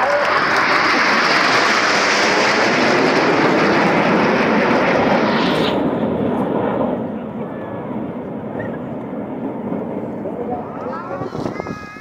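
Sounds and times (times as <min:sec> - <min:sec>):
jets roaring overhead: 0:00.0 - 0:12.0.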